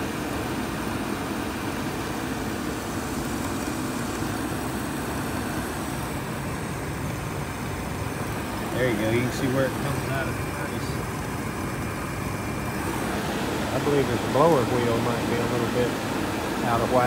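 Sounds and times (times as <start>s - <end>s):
furnace blower hum: 0.0s - 17.0s.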